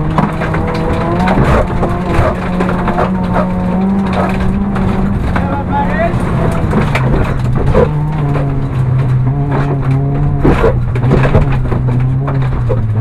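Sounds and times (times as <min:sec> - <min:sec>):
car engine at steady revs: 0:00.0 - 0:13.0
sharp knocks and rattles: 0:00.0 - 0:13.0.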